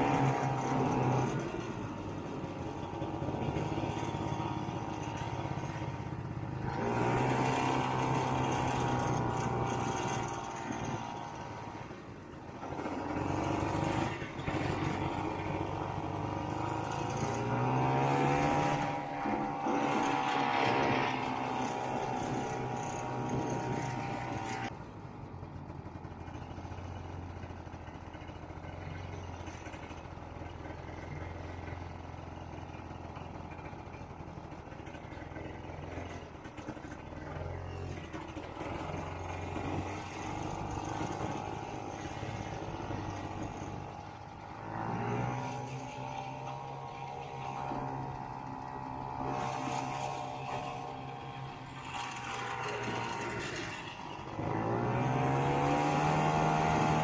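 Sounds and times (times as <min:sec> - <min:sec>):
snowmobile engine revving: 0:00.0 - 0:24.7, 0:35.0 - 0:57.0.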